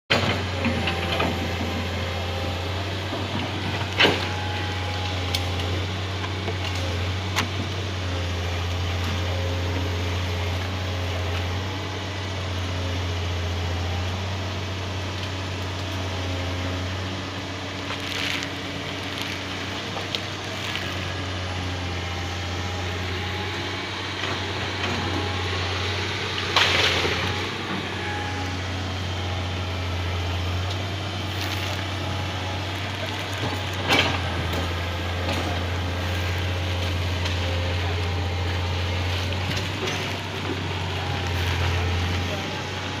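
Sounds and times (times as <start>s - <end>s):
excavator engine running: 0.1s - 43.0s.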